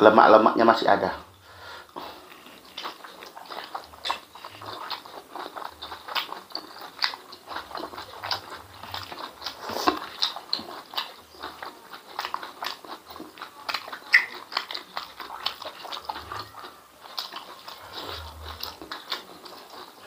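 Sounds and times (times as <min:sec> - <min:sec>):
wet chewing and lip-smacking: 0:01.8 - 0:20.0.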